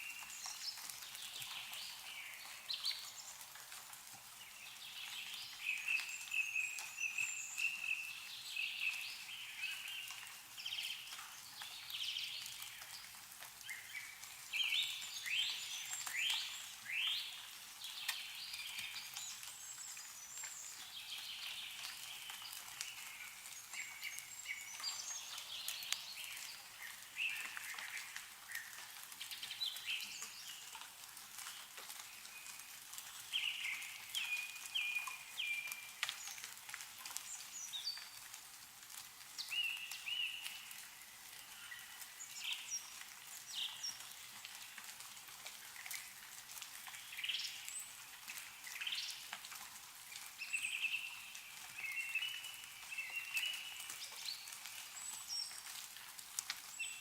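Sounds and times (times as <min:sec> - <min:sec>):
meltwater dripping: 0:00.0 - 0:57.0.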